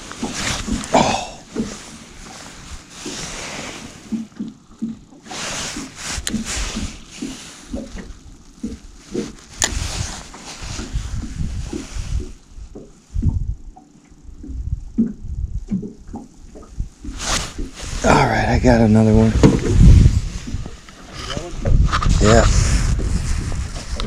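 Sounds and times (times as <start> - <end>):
water splashing against boat: 0.0 - 24.0.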